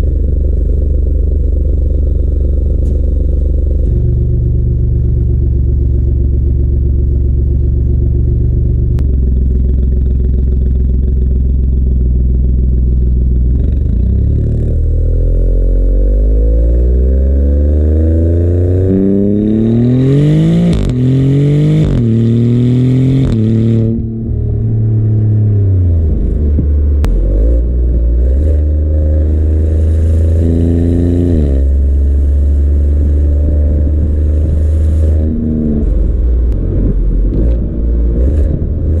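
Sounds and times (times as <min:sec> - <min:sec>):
car exhaust accelerating: 0:00.0 - 0:39.0.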